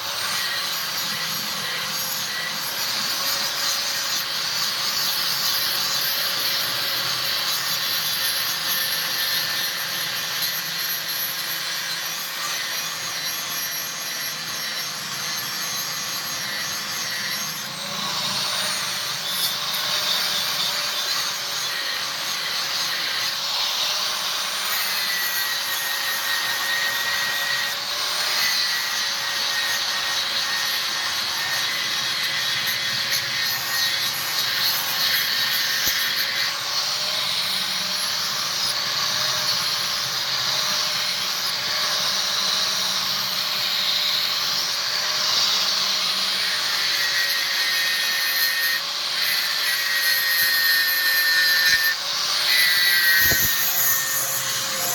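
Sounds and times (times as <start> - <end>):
electric grinder motor: 0.0 - 54.9.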